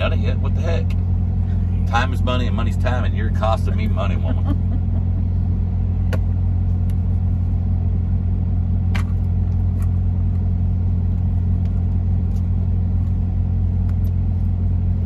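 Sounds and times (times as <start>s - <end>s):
idling engine drone: 0.0s - 15.0s.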